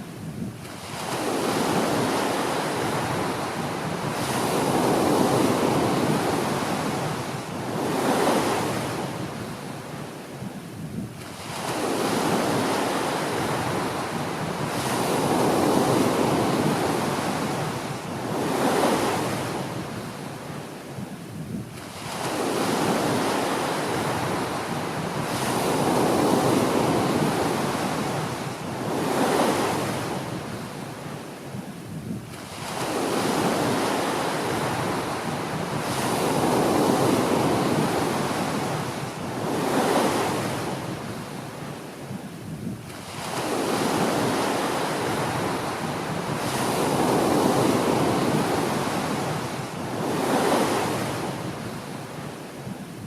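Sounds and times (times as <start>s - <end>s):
small ocean waves breaking: 0.0s - 53.0s.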